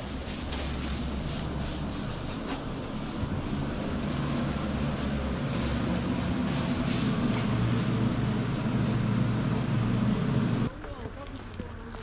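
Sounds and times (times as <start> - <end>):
moving vehicle rumble: 0.0 - 12.0.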